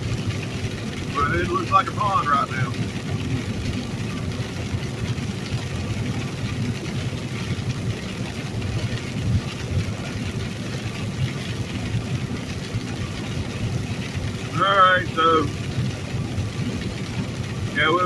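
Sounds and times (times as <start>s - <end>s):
rain and road spray hiss: 0.0s - 18.0s
truck diesel engine rumble: 0.0s - 18.0s
tyres on wet road: 0.0s - 18.0s.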